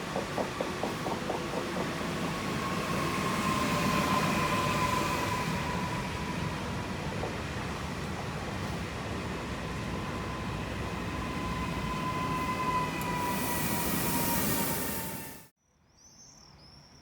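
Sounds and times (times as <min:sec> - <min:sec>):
electric train whine: 0:00.0 - 0:15.5
train rolling noise: 0:00.0 - 0:15.5.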